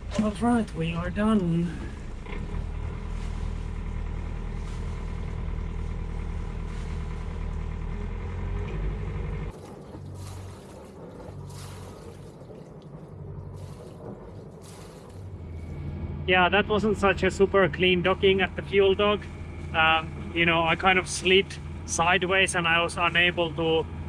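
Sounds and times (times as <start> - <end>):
boat engine running: 0.0 - 24.0
water rushing along hull: 0.0 - 24.0.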